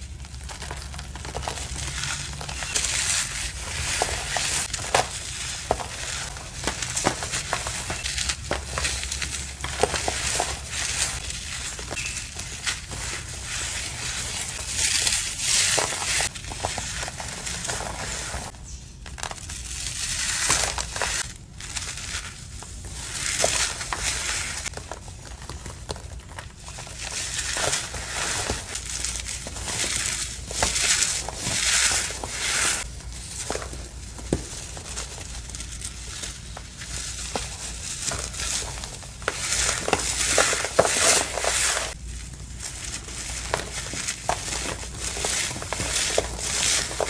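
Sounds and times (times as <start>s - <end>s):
powdery material crunching: 0.0s - 47.0s.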